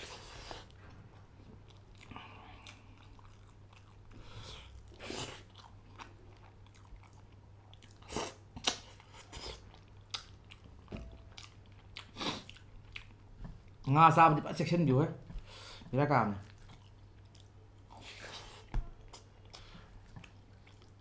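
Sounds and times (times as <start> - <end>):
person chewing: 0.0 - 14.0, 16.4 - 21.0.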